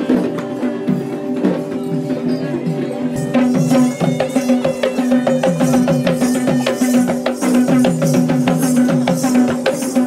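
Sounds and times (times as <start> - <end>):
fast rhythmic drumming: 0.0 - 10.0.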